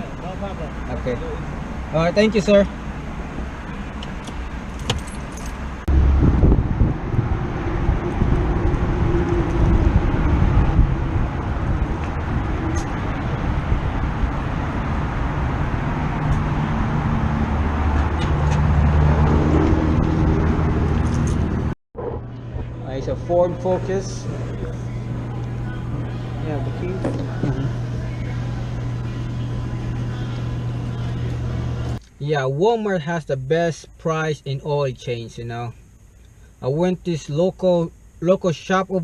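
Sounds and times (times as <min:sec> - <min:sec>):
car engine rumble: 0:00.0 - 0:32.2
road noise: 0:00.0 - 0:39.0.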